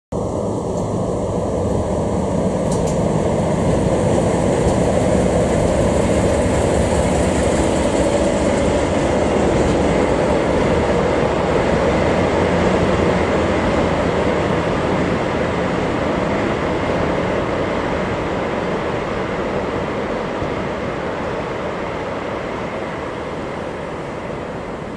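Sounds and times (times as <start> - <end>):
diesel locomotive running past: 0.1 - 24.9
passenger coaches rumbling on rails: 0.1 - 24.9.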